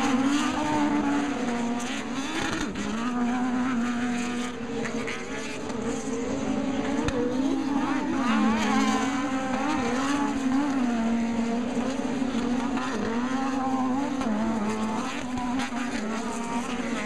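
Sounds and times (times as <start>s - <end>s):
race buggy engines revving: 0.0s - 17.0s.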